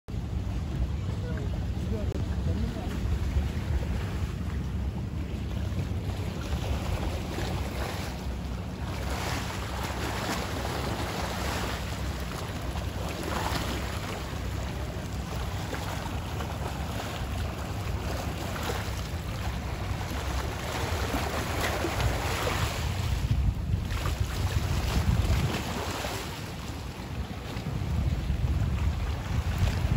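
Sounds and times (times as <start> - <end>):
wind buffeting microphone: 0.1 - 29.9
waves washing against rocks: 1.8 - 29.9.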